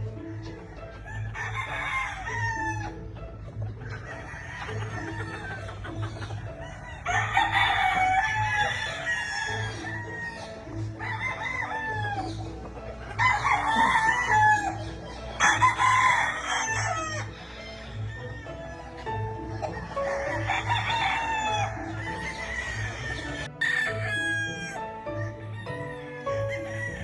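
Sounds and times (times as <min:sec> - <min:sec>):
low rhythmic pulse: 0:00.0 - 0:27.0
roosters crowing: 0:00.0 - 0:27.0.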